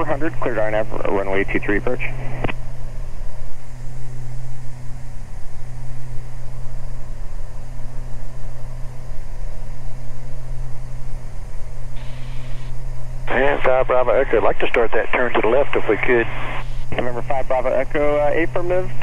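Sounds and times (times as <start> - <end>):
aircraft engines droning in cabin: 0.0 - 19.0.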